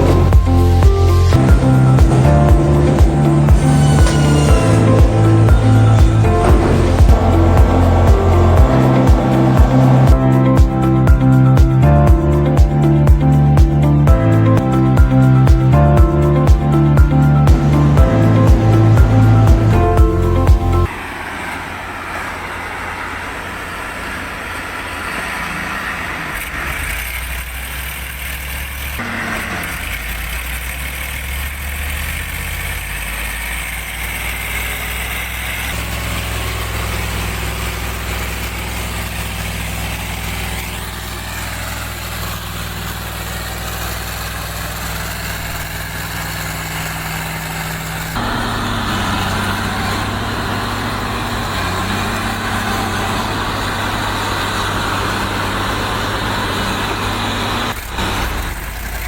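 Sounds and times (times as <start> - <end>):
truck engines running low: 0.0 - 59.0.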